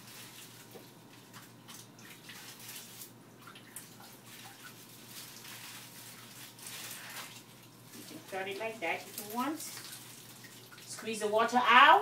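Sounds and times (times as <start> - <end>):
water splashing and dripping: 0.0 - 11.2.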